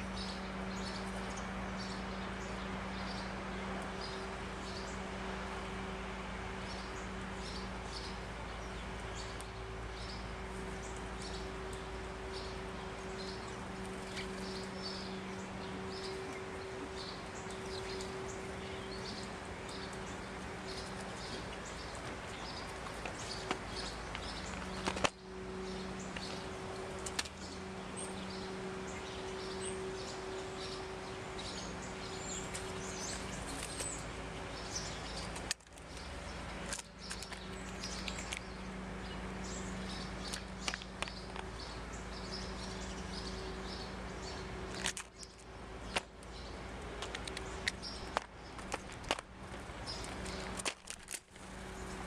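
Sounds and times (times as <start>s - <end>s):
birds chirping: 0.0s - 52.0s
steady low hum: 0.0s - 52.0s.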